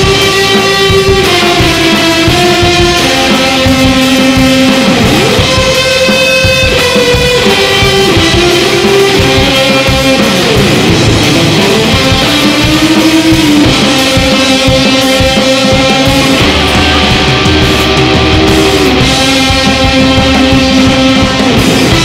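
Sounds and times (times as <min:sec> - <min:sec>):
electric guitar sliding notes: 0:00.0 - 0:22.0
rock band with drums: 0:00.0 - 0:22.0.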